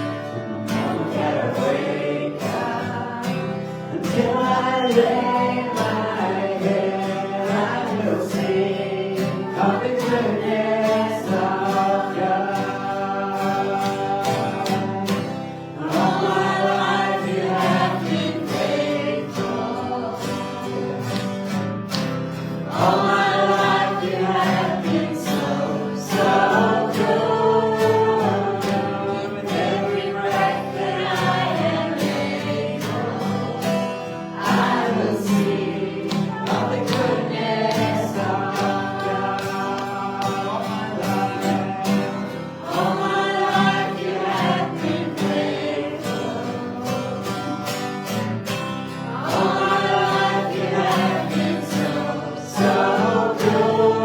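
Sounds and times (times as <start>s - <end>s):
congregation singing worship song: 0.0s - 54.0s.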